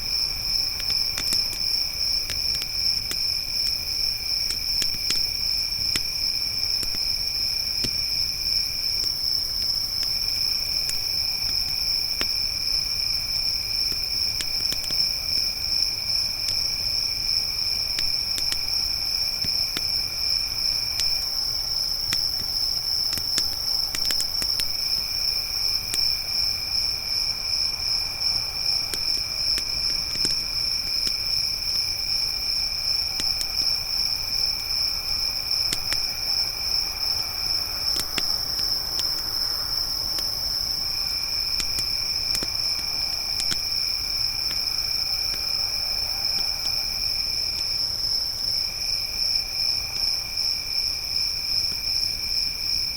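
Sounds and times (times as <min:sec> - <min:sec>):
campfire crackling: 0:00.0 - 0:49.9
crickets trilling: 0:00.0 - 0:52.9.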